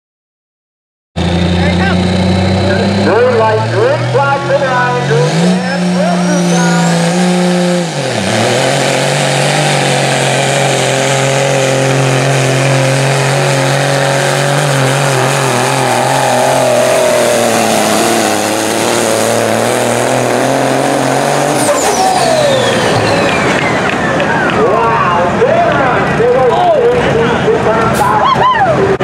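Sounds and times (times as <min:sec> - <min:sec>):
diesel engine at full throttle: 0:01.2 - 0:29.0.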